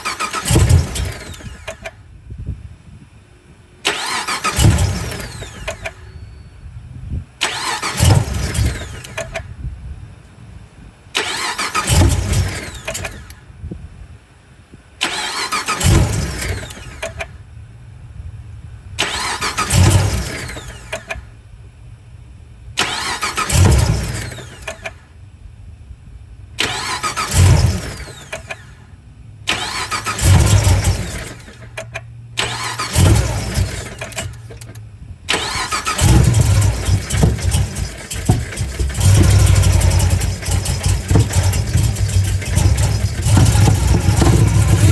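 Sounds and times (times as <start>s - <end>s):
car engine starting: 0.0s - 2.2s, 3.7s - 6.5s, 7.2s - 13.6s, 14.7s - 22.0s, 22.6s - 25.3s, 26.4s - 44.9s.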